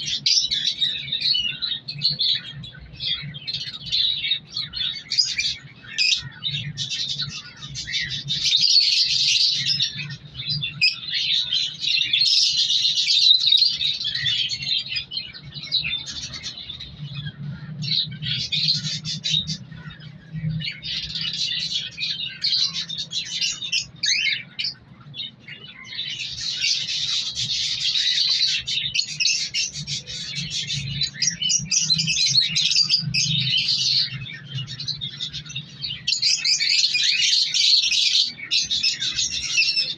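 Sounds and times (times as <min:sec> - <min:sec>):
caged birds chirping: 0:00.0 - 0:39.9.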